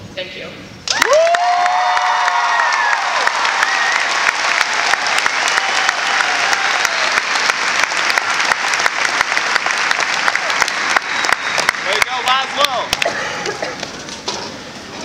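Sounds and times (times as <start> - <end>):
large audience applauding: 0.9 - 13.1.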